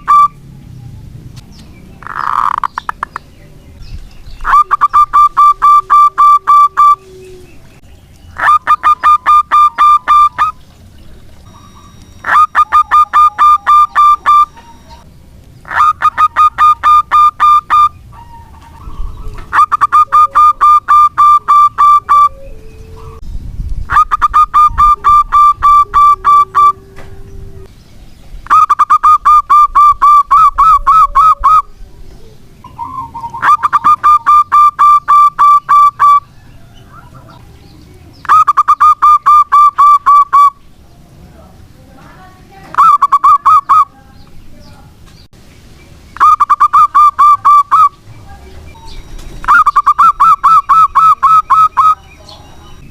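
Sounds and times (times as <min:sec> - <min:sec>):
dove singing repeated notes: 0:00.0 - 0:52.9.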